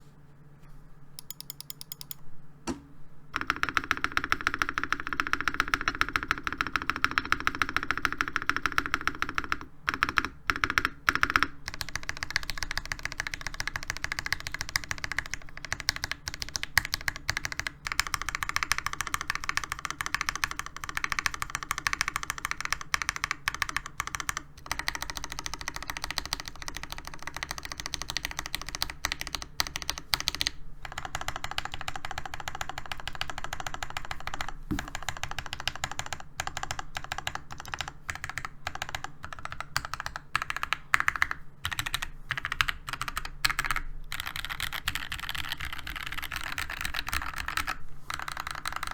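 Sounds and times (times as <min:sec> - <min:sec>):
mechanical keyboard key presses: 0:01.2 - 0:02.8, 0:03.4 - 0:48.9.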